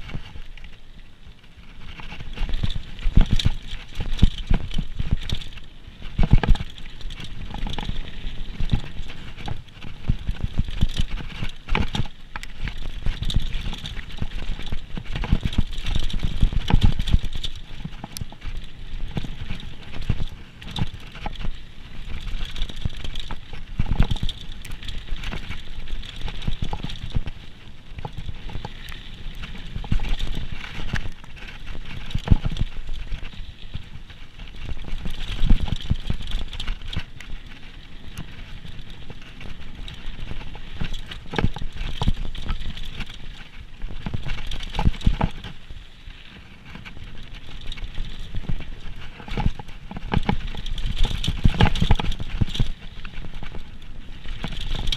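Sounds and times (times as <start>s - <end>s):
bike rattling over rocks and roots: 0.0s - 54.9s.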